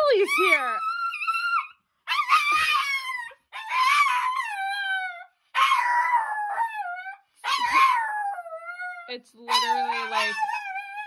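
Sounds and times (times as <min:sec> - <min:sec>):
small dog howling: 0:00.1 - 0:11.0.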